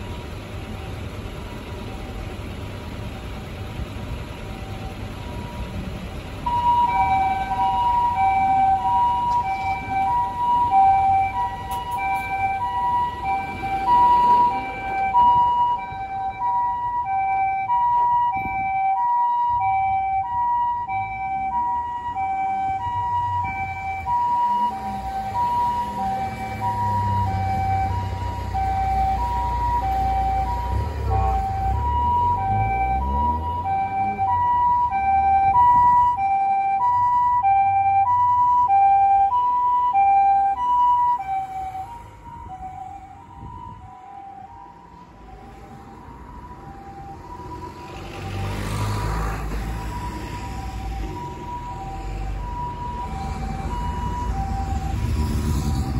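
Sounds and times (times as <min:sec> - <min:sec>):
car engines in slow traffic: 0:00.0 - 0:55.9
two-tone ambulance siren: 0:04.3 - 0:55.9.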